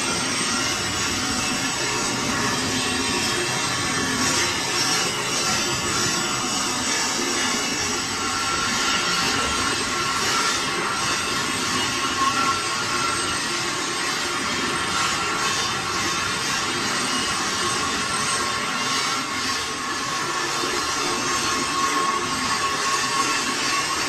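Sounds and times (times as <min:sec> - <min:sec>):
lathe hissing whir: 0:00.0 - 0:24.0.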